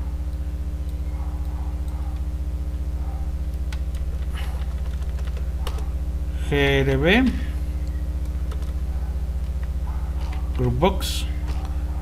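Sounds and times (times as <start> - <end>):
low electrical hum with flutter: 0.0 - 12.0.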